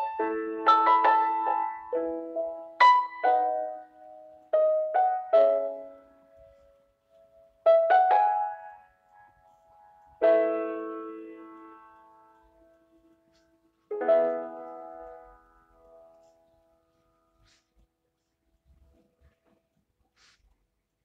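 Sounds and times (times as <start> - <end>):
slow piano chords: 0.0 - 19.5.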